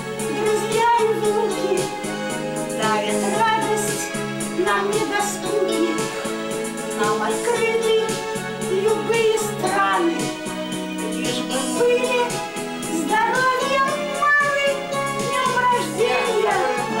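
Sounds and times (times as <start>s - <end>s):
backing track held chords: 0.0s - 17.0s
woman singing: 0.2s - 6.2s, 6.9s - 10.4s, 11.0s - 17.0s.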